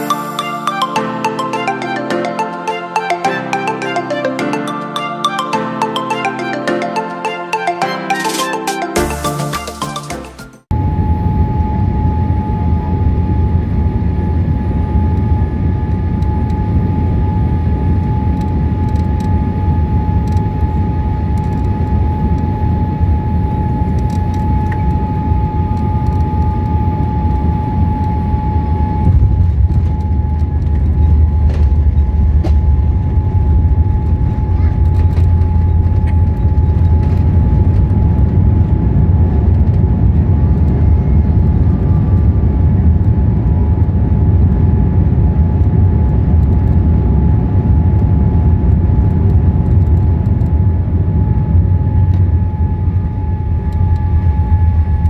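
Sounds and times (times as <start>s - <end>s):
airplane cabin rumble: 10.7s - 55.0s.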